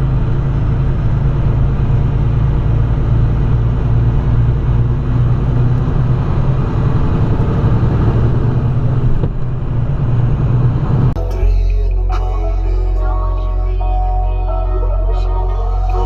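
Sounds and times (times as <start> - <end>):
road and tyre noise: 0.0 - 16.0
vehicle engine hum: 0.0 - 16.0.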